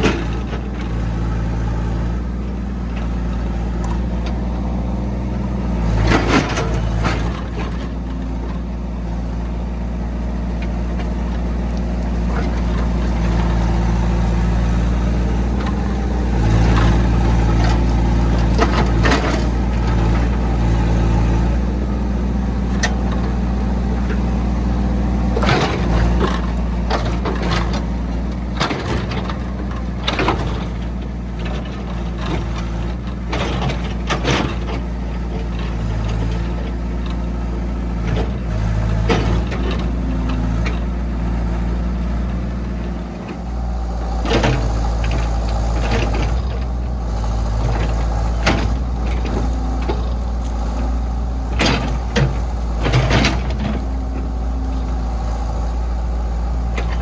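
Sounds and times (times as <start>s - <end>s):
diesel engine running: 0.0s - 57.0s
machine clanking and knocking: 5.6s - 57.0s.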